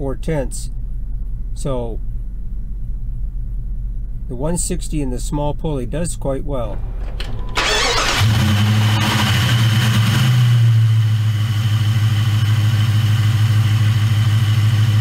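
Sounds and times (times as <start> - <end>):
high-pitched alternator whine: 0.0 - 15.0
car engine idling: 0.3 - 15.0.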